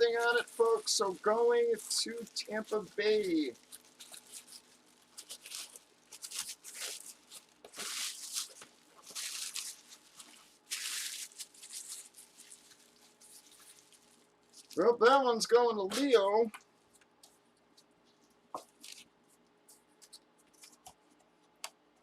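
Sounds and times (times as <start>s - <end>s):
packaging rustling and crinkling: 0.0s - 14.8s, 17.7s - 21.0s.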